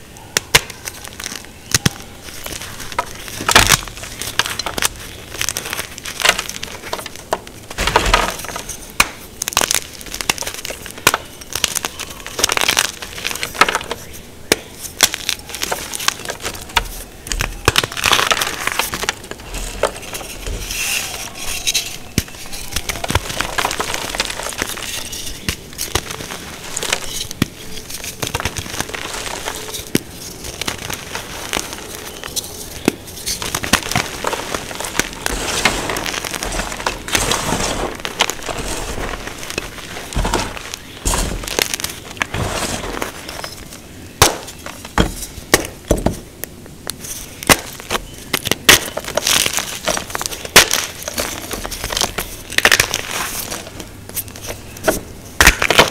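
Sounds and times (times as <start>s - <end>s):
chalk block crunching in hands: 0.4s - 46.2s, 46.9s - 55.9s.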